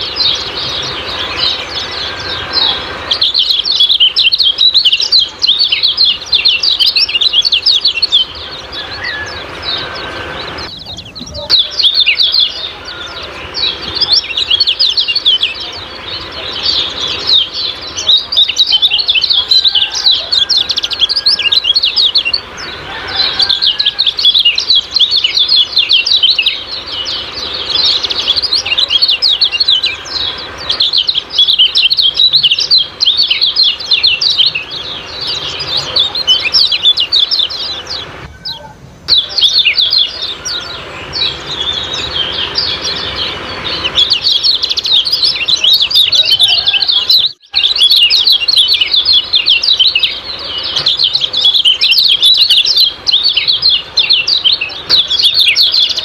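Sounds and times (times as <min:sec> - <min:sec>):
bird singing rapid high chirps: 0:00.0 - 0:56.0.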